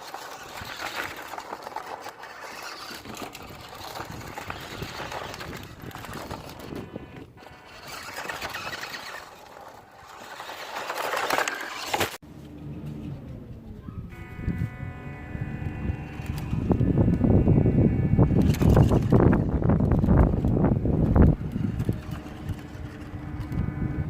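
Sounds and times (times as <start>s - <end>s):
rc truck tyres scrubbing: 0.0s - 12.2s, 14.1s - 24.0s.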